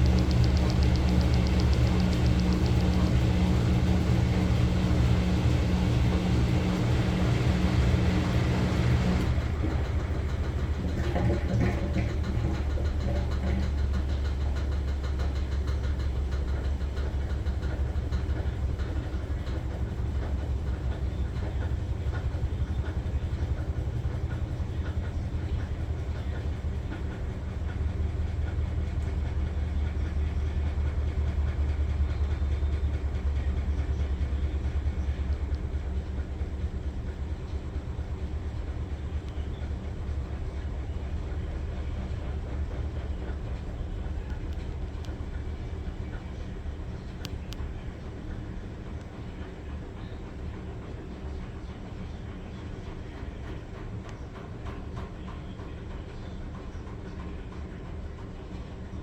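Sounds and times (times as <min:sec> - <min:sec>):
washing machine motor hum: 0:00.0 - 0:53.9
washer churning rumble: 0:00.0 - 0:59.0.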